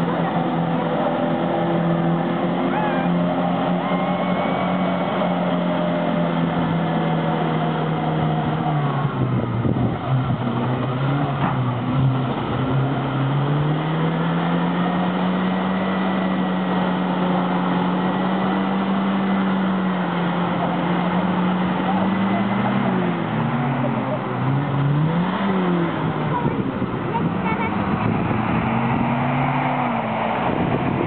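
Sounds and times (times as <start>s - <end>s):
engine running under load: 0.0s - 31.0s.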